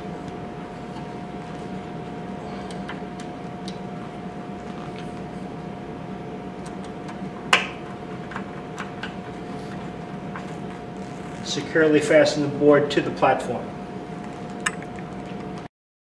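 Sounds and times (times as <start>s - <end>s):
steady background hum: 0.0s - 15.7s.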